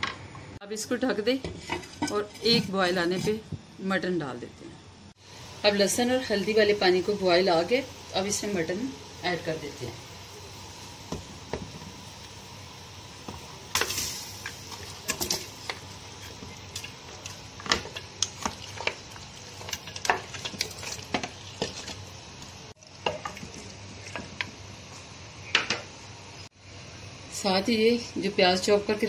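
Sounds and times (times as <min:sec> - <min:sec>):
steady hiss: 0:05.1 - 0:29.0.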